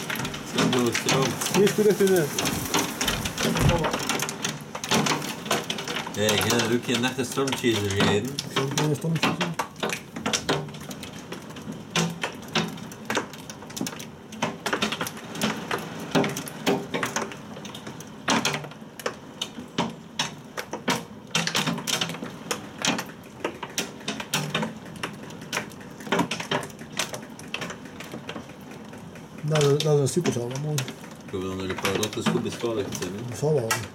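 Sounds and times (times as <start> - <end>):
faint hiss of rain: 0.0 - 33.9
hailstones striking hard surfaces: 0.0 - 33.9.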